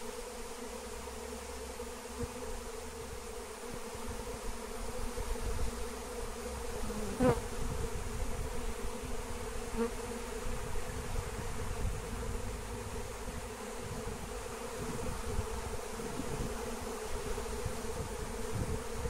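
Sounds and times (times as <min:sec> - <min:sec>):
honeybee swarm buzzing: 0:00.0 - 0:19.0.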